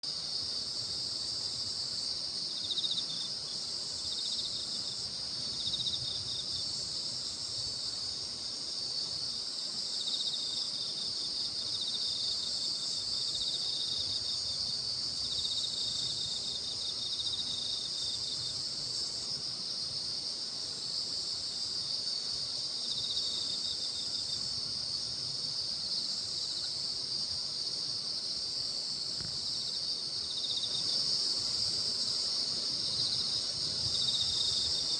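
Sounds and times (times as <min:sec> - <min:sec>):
crickets chirping shrill: 0:00.0 - 0:34.9
insect trills: 0:00.0 - 0:34.9.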